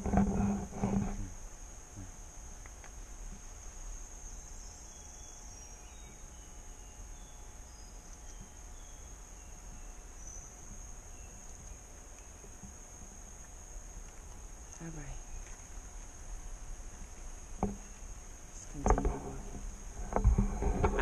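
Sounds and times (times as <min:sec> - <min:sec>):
insects droning chorus: 0:00.0 - 0:21.0
low rumble of wind: 0:00.0 - 0:21.0.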